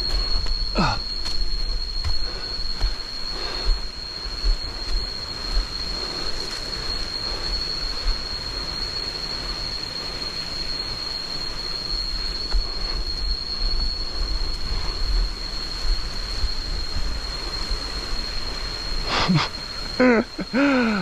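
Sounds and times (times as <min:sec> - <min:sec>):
even hiss: 0:00.0 - 0:21.0
insects droning: 0:00.0 - 0:21.0.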